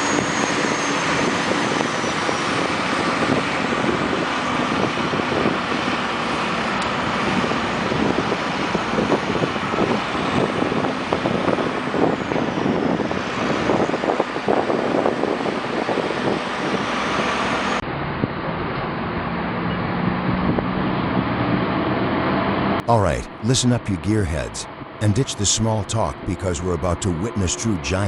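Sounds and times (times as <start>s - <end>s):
heavy road vehicles passing: 0.0s - 28.0s.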